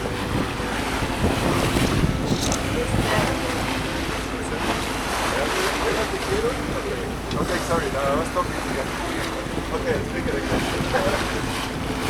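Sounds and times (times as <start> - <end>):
water rushing along hull: 0.0 - 12.0
wind buffeting microphone: 0.0 - 12.0.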